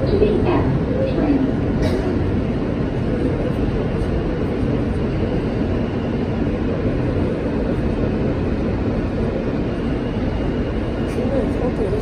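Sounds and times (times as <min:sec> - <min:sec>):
subway car rumbling in tunnel: 0:00.0 - 0:12.0.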